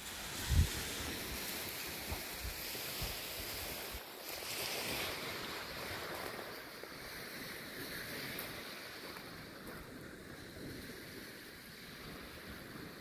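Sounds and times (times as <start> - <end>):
lakeshore water: 0.0 - 13.0
wind: 0.0 - 13.0
wind buffeting microphone: 0.1 - 13.0.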